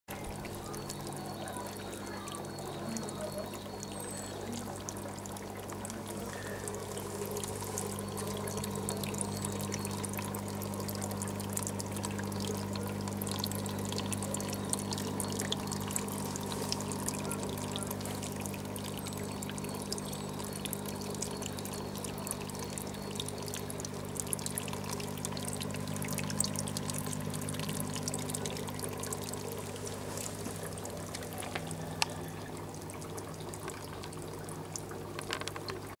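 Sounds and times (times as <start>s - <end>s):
pump humming: 0.1s - 36.0s
water trickling and splashing: 0.1s - 36.0s.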